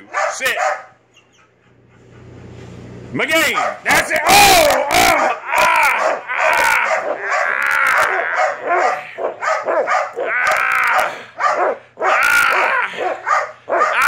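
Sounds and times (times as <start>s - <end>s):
dog barking excitedly: 0.0s - 1.5s, 3.4s - 14.0s.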